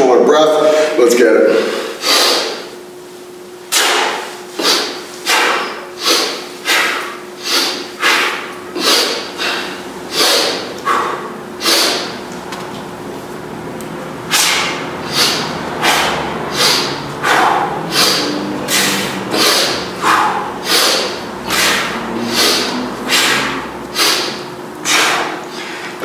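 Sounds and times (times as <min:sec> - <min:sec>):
man breathing sharply: 0:00.6 - 0:02.7, 0:03.7 - 0:12.2, 0:14.3 - 0:26.0.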